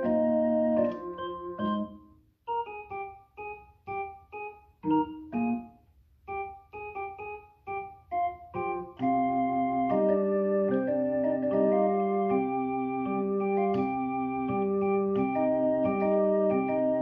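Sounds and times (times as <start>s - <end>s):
electric organ chords: 0.0s - 17.0s.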